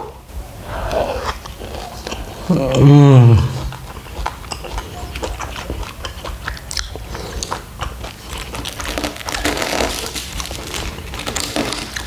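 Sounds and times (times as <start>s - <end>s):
chewing crispy pastry: 0.6s - 12.0s.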